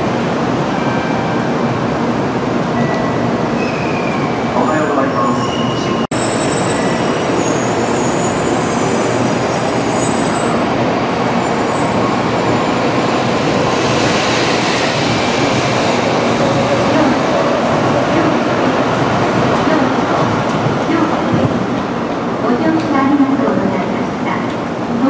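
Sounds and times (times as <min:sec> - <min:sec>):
train rushing rumble: 0:00.0 - 0:25.0.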